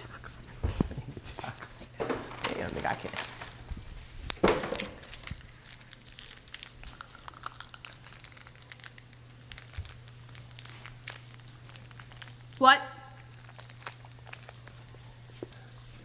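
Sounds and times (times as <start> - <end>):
steady low hum: 0.0 - 16.0
packaging crinkling: 1.9 - 16.0.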